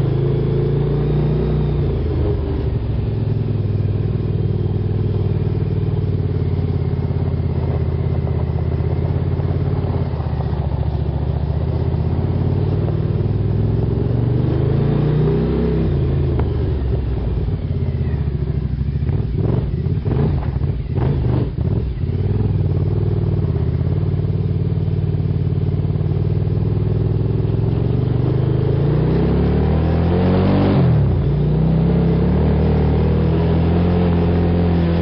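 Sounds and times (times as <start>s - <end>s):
buggy engine running: 0.0s - 35.0s.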